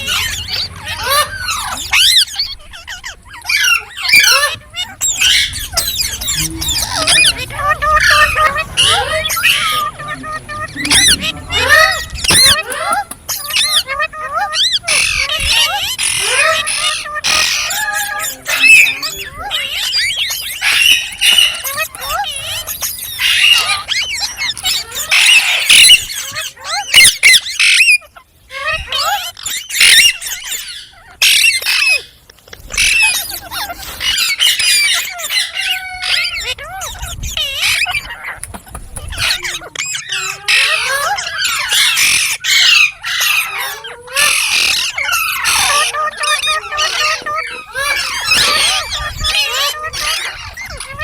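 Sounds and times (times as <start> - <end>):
parrots chirping and screeching: 0.0 - 51.0.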